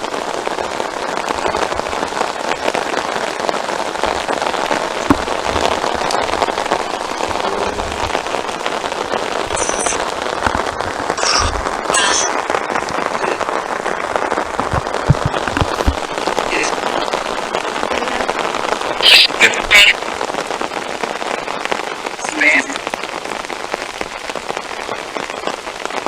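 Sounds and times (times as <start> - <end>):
rain pattering on an umbrella: 0.0 - 26.0.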